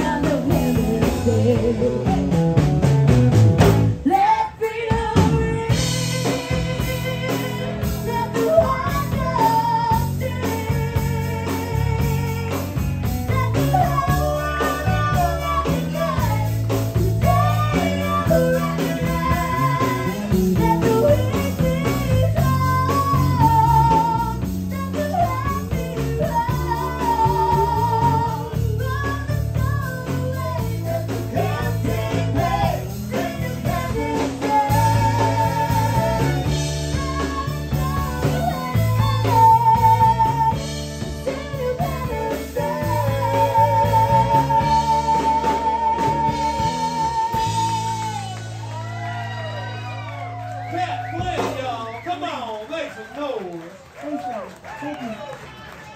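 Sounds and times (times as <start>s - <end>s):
woman singing with vibrato: 0.0s - 2.4s, 4.0s - 50.3s
electric bass: 0.0s - 52.2s
guitar: 0.0s - 52.2s.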